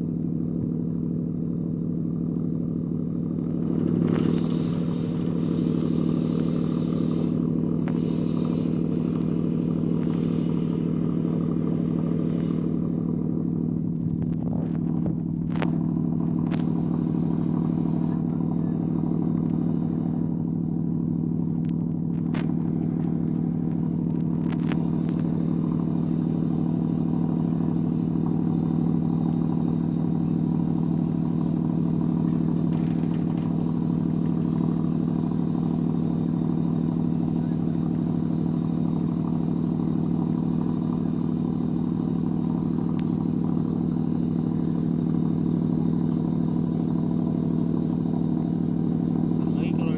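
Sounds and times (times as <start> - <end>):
anchor windlass machine hum: 0.0 - 49.9.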